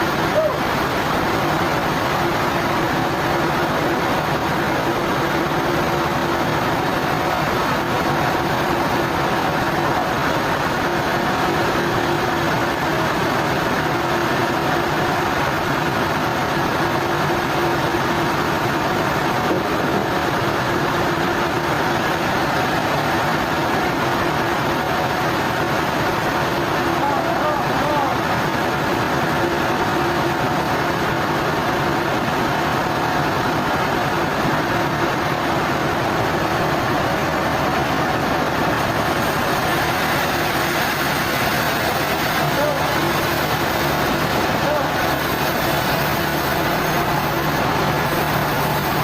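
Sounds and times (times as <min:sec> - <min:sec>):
sawmill machinery droning: 0:00.0 - 0:49.0.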